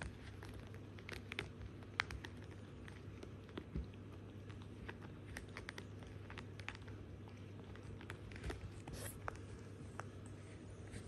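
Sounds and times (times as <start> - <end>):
claws and teeth on plastic: 0.0 - 11.0.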